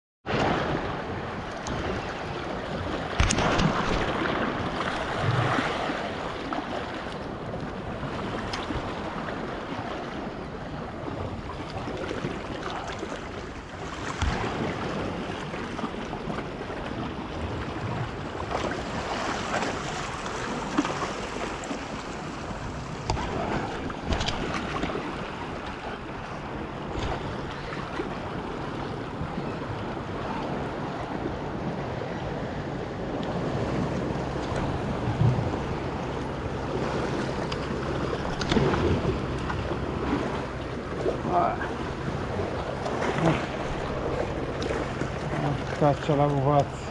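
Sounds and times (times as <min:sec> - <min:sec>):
wind buffeting microphone: 0:00.2 - 0:46.9
sea waves washing against rocks: 0:00.3 - 0:46.9.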